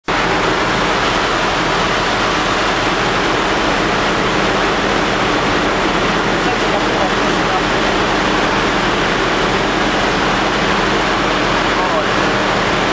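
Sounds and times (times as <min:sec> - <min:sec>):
engine room machinery noise: 0:00.0 - 0:12.9.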